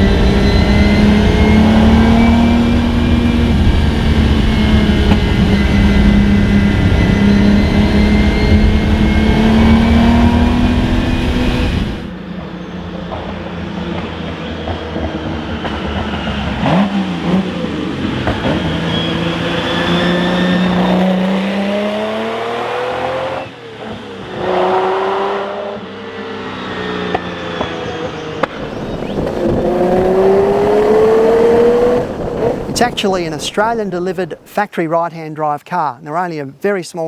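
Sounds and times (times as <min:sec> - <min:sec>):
car engine accelerating: 0:00.0 - 0:33.8.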